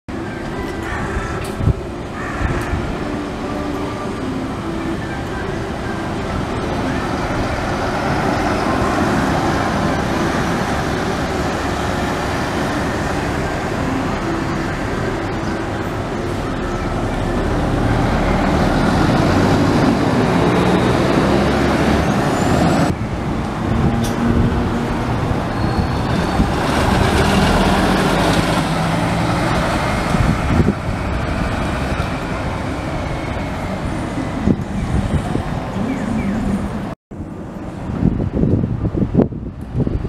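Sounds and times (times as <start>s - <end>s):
diesel buses driving past: 0.1s - 40.0s
traffic noise: 0.1s - 40.0s.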